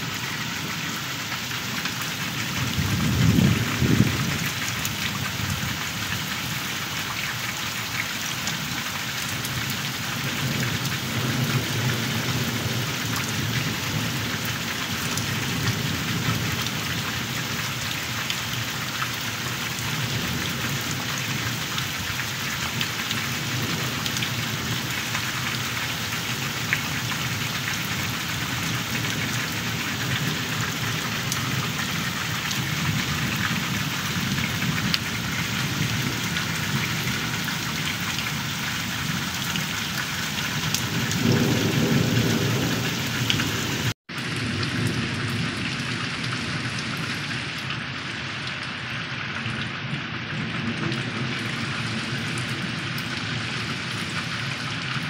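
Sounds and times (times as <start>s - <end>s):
heavy rain hissing: 0.0s - 7.5s, 8.6s - 49.0s.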